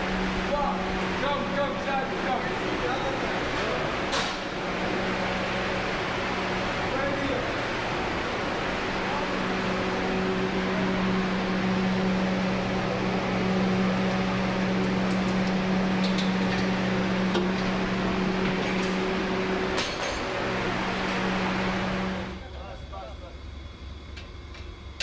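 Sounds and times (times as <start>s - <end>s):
electric motor hum: 0.0s - 22.5s
fan rushing air: 0.0s - 25.0s.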